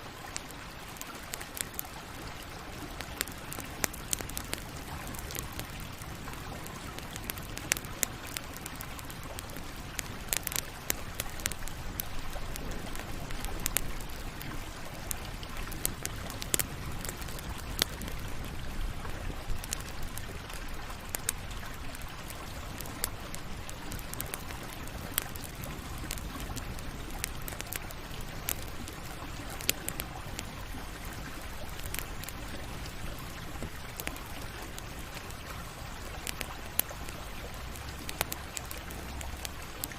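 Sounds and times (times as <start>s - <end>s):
burning wood crackling and popping: 0.0s - 39.9s
campfire hissing: 0.0s - 39.9s.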